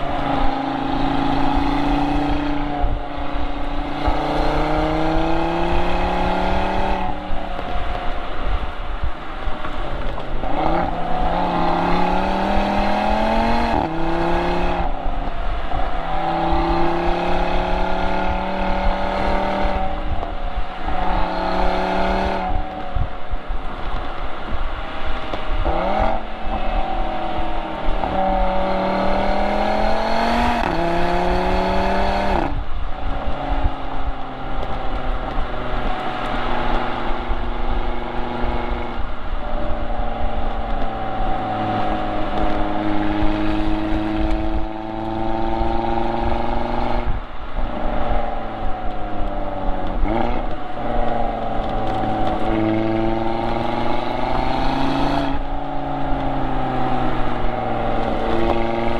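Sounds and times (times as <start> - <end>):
car engine and exhaust accelerating: 0.0 - 58.9.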